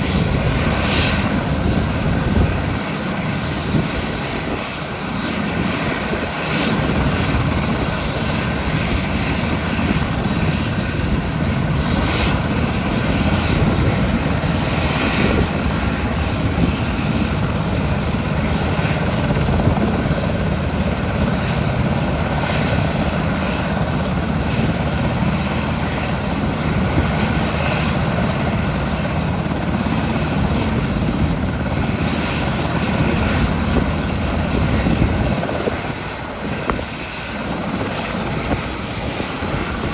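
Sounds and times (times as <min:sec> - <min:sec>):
helicopter rotor and engines: 0:00.0 - 0:39.9.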